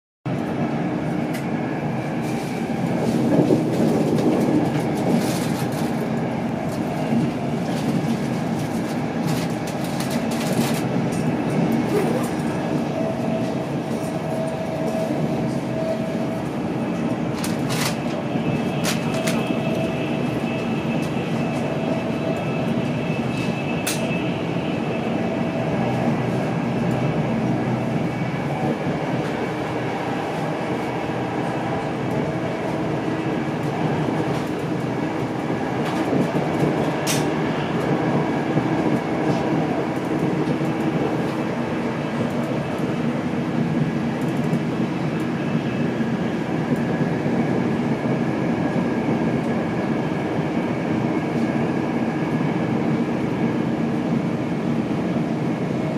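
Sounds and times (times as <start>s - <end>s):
train coach rumble at speed: 0.2s - 55.9s.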